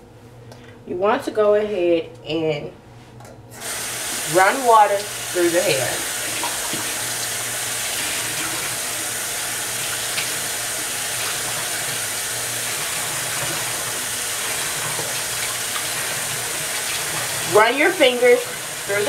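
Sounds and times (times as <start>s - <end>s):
tap water running: 3.6s - 19.0s.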